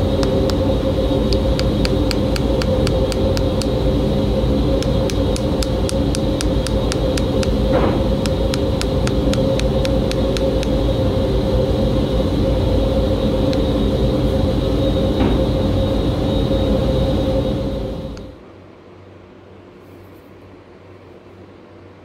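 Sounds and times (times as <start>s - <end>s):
machine hum: 0.0s - 18.5s.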